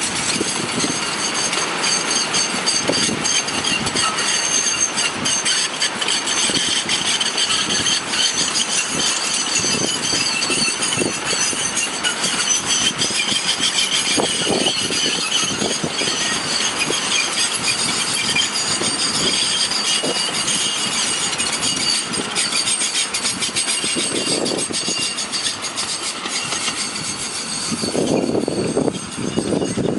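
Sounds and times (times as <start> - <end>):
rolling rumble of rail bins: 0.0 - 29.9
train wheels squealing: 0.0 - 29.9
wheels clacking and knocking: 0.0 - 29.9.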